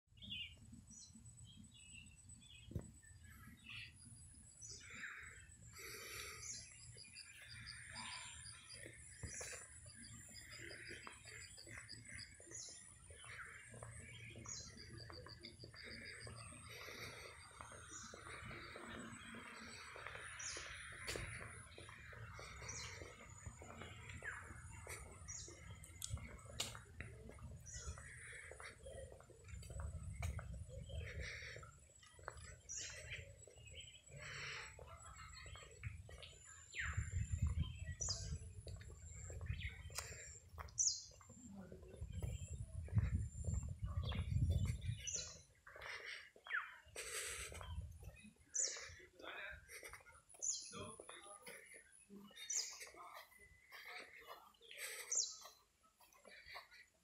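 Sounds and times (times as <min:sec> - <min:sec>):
birds chirping and calling: 0:00.1 - 0:57.0.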